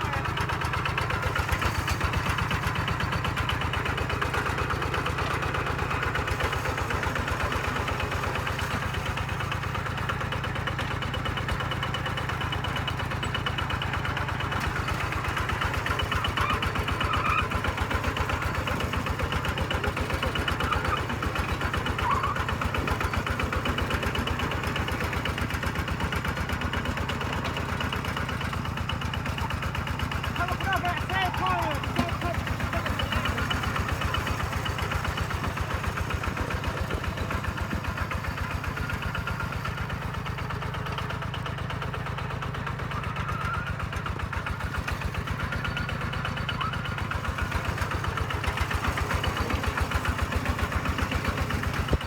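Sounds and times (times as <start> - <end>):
single-cylinder diesel engine running: 0.0 - 52.0.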